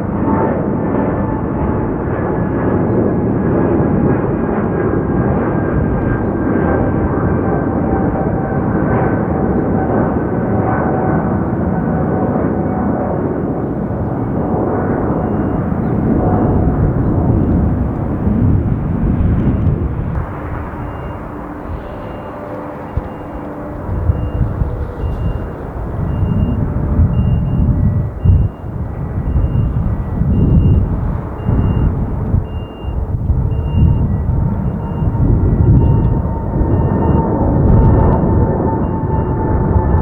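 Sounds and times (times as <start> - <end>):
jet airliner passing: 0.0 - 40.0.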